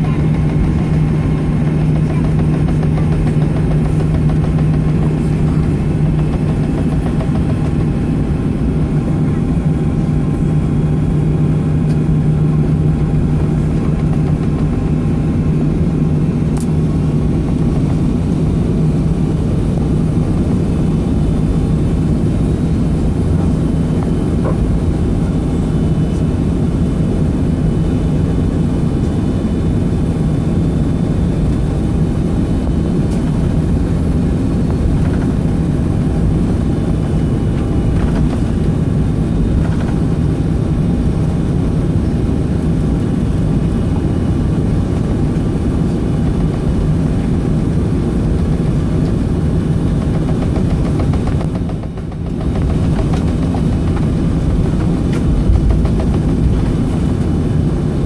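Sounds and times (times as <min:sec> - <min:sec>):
aircraft engines droning in cabin: 0:00.0 - 0:58.0.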